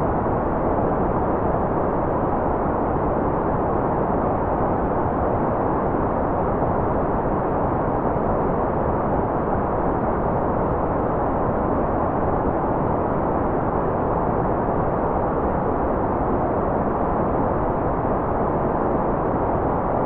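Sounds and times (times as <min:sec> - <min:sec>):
muffled white noise hiss: 0:00.0 - 0:20.0.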